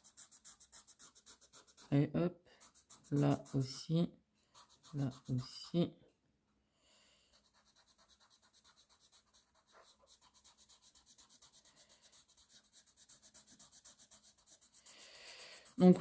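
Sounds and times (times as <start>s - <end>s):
pastel rubbing on paper: 0.0s - 2.0s, 2.6s - 3.9s, 4.5s - 5.8s, 7.3s - 16.0s.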